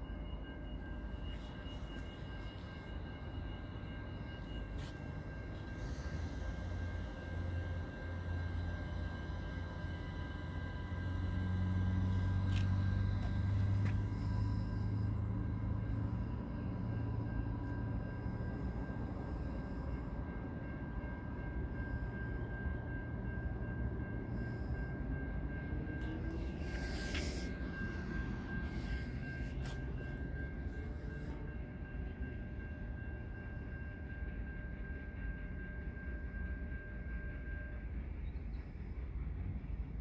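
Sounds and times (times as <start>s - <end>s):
distant train rumbling: 0.0s - 40.0s.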